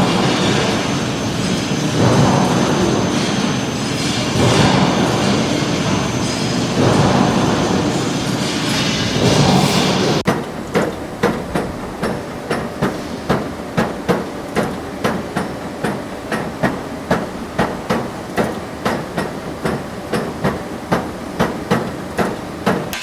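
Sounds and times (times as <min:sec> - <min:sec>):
machine knocking: 0:00.0 - 0:23.0
steady machine noise: 0:00.0 - 0:23.0.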